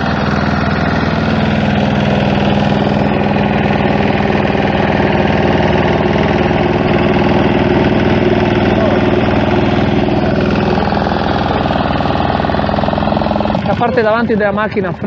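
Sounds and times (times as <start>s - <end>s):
rotary tiller milling soil: 0.0s - 15.0s
tractor engine running: 0.0s - 15.0s.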